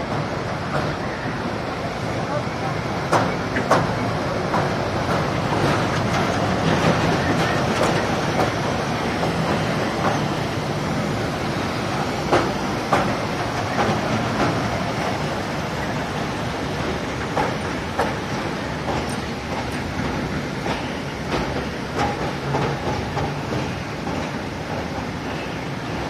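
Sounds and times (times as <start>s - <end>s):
train coach rumbling and rattling: 0.0s - 26.0s
wheels clicking on track: 2.2s - 26.0s.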